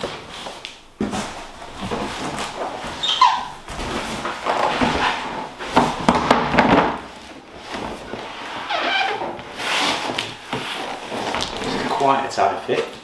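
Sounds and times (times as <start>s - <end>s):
cardboard scraping and rubbing: 0.0s - 13.0s.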